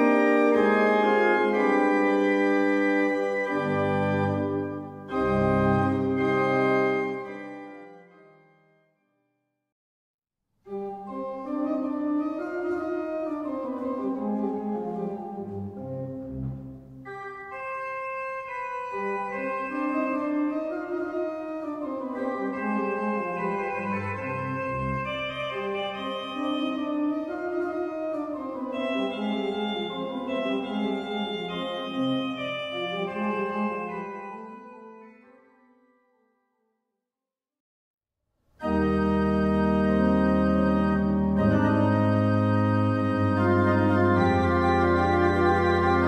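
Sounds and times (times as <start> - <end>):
pipe organ playing a melody: 0.0 - 8.8, 10.7 - 35.6, 38.6 - 46.0.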